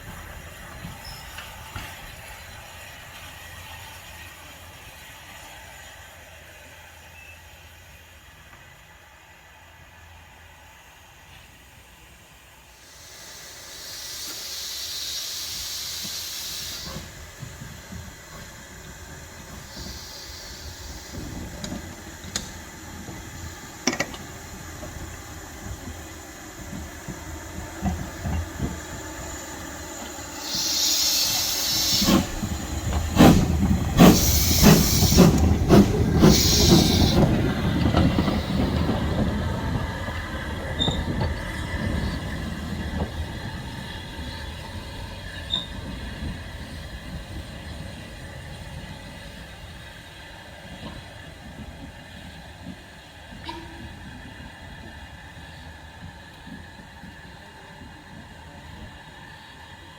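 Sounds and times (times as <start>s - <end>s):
locomotive steam hissing: 0.0s - 59.9s
train rumble: 0.0s - 59.9s
train wheels clicking on rails: 0.0s - 59.9s.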